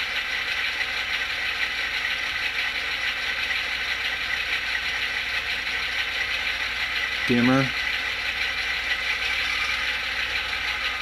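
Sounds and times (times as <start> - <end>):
model diesel engine idling: 0.0 - 11.0.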